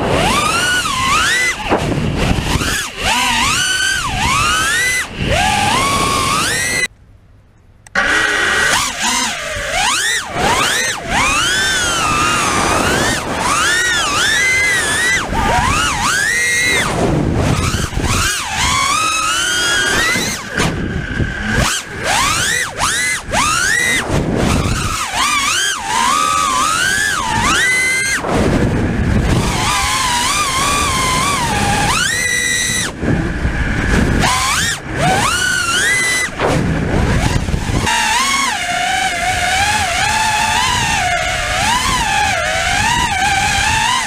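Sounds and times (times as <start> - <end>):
quadcopter motors whining: 0.0 - 6.9, 7.9 - 44.0.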